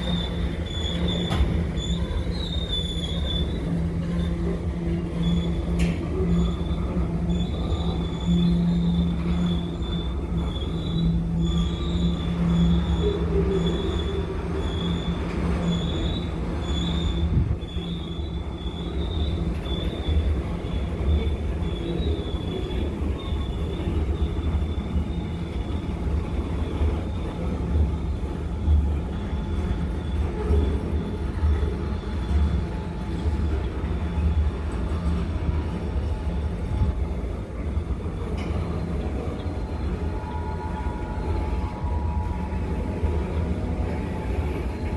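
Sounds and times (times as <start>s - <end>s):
freight train rumble: 0.0s - 44.9s
train wheels squealing on rails: 0.0s - 44.9s.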